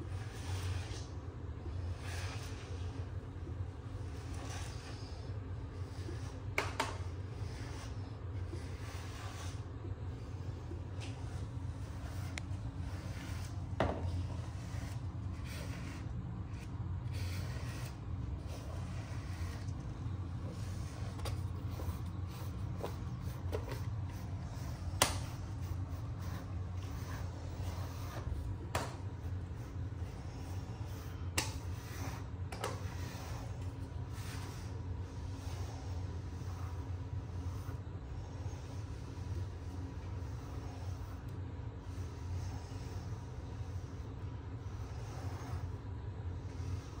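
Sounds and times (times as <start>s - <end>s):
steady low hum: 0.0s - 47.0s
brush rubbing through fur: 1.8s - 41.3s.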